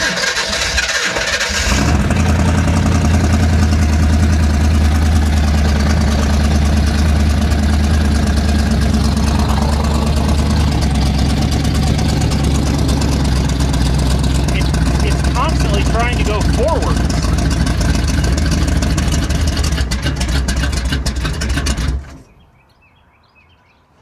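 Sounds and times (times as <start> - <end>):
car engine idling: 0.2 - 22.2.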